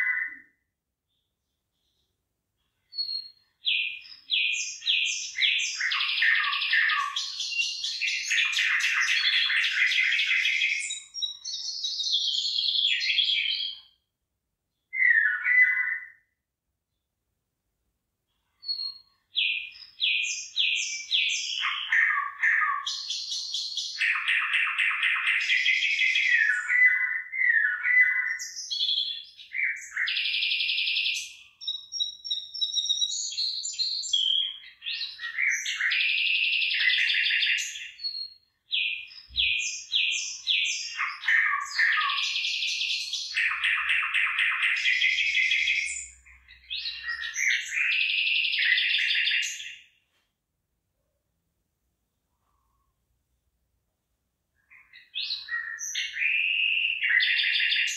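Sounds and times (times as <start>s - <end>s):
songbird chirping and trilling: 0.0s - 17.2s, 18.3s - 50.2s, 54.6s - 57.9s.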